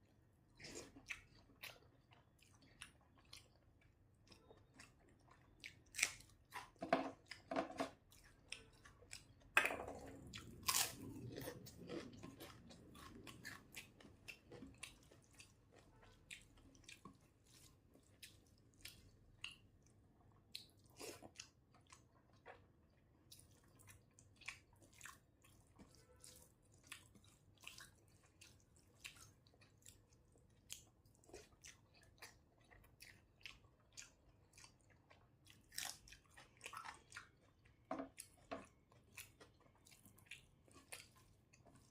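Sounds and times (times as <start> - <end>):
chewing and biting food: 0.6 - 41.9.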